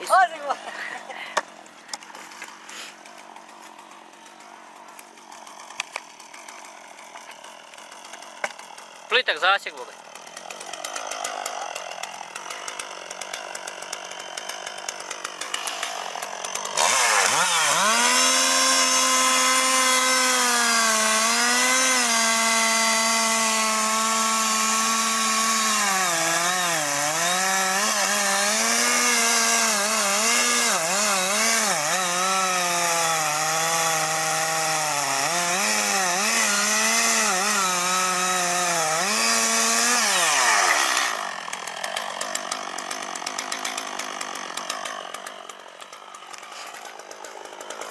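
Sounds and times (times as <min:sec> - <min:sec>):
chainsaw cutting into tree: 0:00.0 - 0:47.9.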